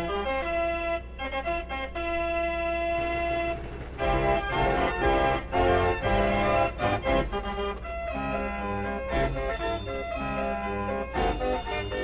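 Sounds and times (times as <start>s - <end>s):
organ playing chords: 0.0s - 12.0s.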